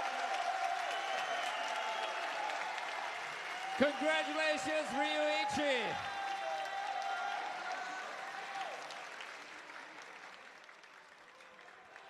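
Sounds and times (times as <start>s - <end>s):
faint audience applause: 0.0s - 12.0s.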